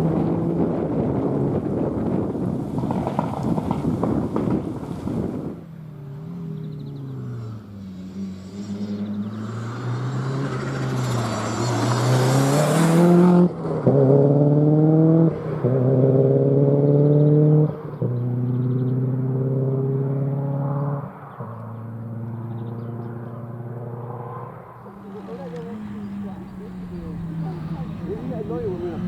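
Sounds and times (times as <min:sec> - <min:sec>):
rally car accelerating through gears: 0:00.0 - 0:29.0.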